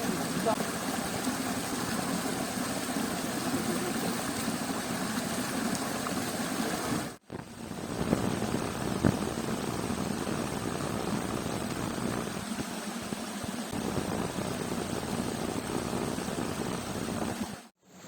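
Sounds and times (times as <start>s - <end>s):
creek water running: 0.0s - 17.7s.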